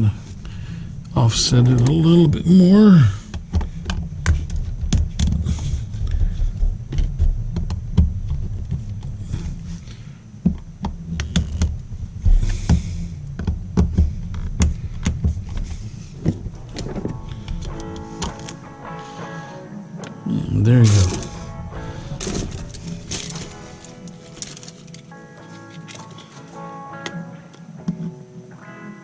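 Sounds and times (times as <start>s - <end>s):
steady low hum: 0.0s - 28.4s
music: 3.3s - 29.0s.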